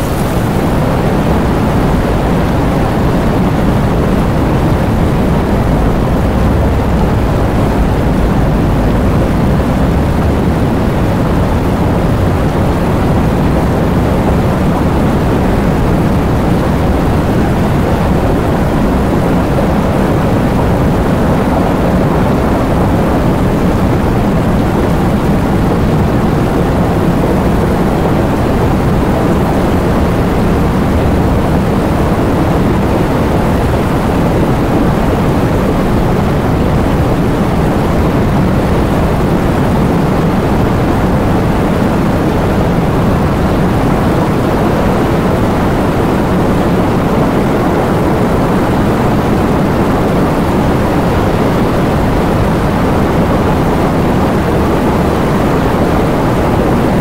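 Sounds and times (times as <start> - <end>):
heavy rain with wind: 0.0 - 57.0.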